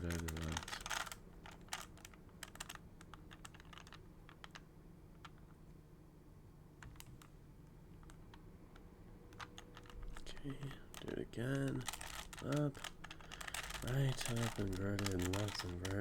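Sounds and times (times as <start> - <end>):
plastic puzzle cube clicking: 0.0 - 5.5, 8.0 - 16.0.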